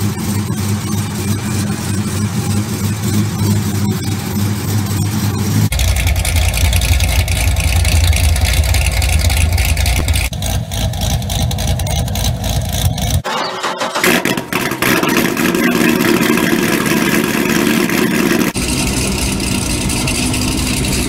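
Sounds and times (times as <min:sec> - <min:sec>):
vee eight car exhausts running: 0:00.0 - 0:21.0.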